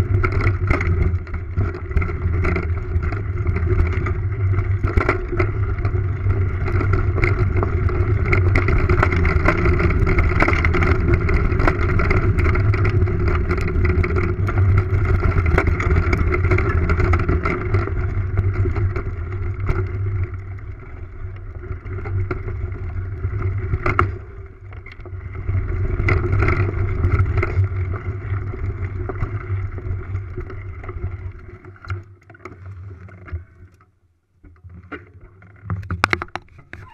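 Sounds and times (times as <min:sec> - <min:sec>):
tyre rumble: 0:00.0 - 0:31.8
bike rattles and knocks: 0:00.0 - 0:33.5, 0:34.5 - 0:36.9.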